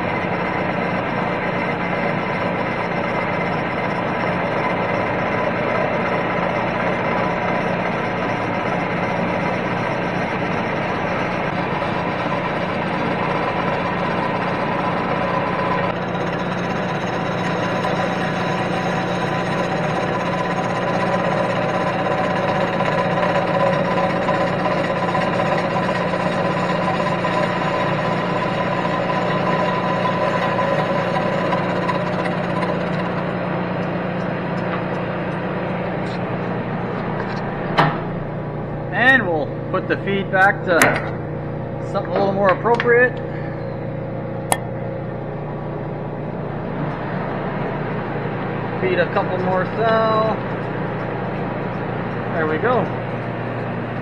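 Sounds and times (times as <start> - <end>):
boring mill machining metal: 0.0 - 54.0.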